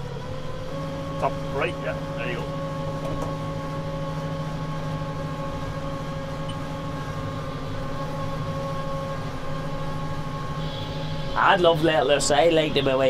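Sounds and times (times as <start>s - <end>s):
baler whine: 0.0s - 13.0s
tractor engine drone: 0.0s - 13.0s.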